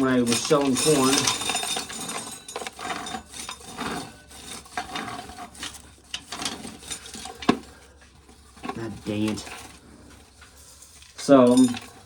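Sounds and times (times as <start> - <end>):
kernels rattling into pail: 0.0 - 12.0.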